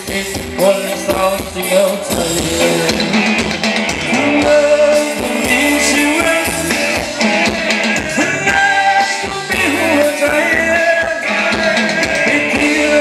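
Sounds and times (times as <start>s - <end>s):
guitar: 0.0s - 13.0s
live band music: 0.0s - 13.0s
steady drum beat: 0.0s - 13.0s.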